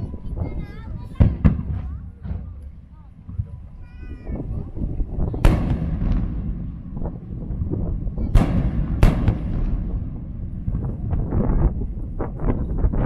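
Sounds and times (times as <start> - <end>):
firework bangs: 0.0 - 13.0
rumbling echo: 0.0 - 13.0
small firework cracks: 0.4 - 12.6.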